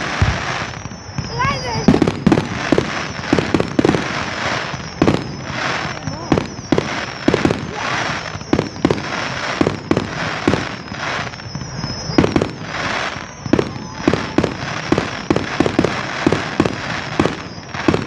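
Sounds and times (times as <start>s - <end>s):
fireworks bangs: 0.0s - 18.0s
fireworks hissing crackle: 0.0s - 18.0s.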